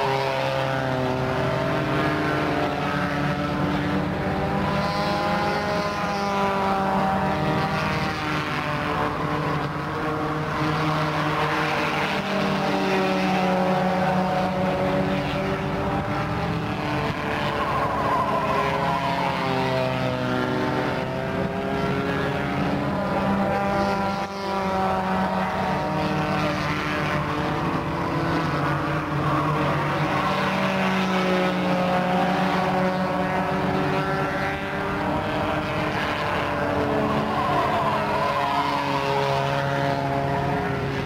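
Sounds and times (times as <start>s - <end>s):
race car engines: 0.0s - 41.0s.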